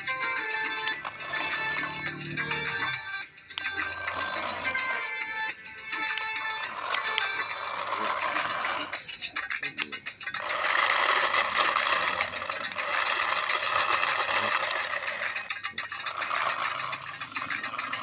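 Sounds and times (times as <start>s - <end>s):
small electric motor rattling buzz: 0.0s - 18.0s.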